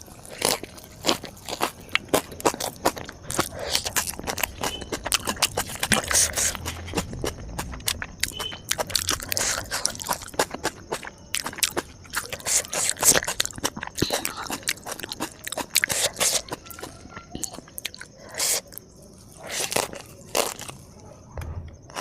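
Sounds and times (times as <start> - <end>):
crunchy bites and chewing: 0.0 - 22.0.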